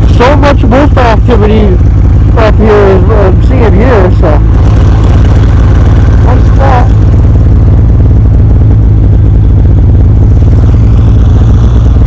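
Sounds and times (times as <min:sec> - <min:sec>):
snowmobile engine idling: 0:00.0 - 0:12.0.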